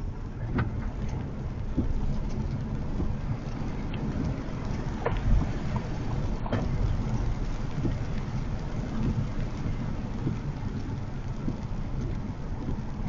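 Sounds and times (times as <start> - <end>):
raindrops ticking on car: 0.0 - 13.0
road and tyre rumble: 0.0 - 13.0.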